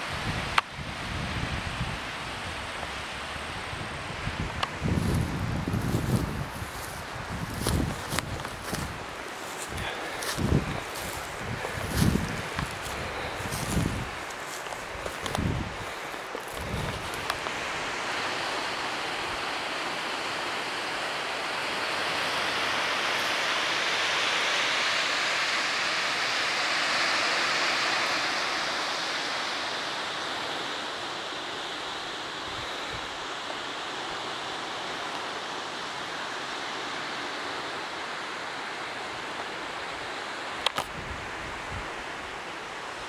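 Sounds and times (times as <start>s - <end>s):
surf on the shore: 0.0s - 43.0s
wind: 0.0s - 43.0s.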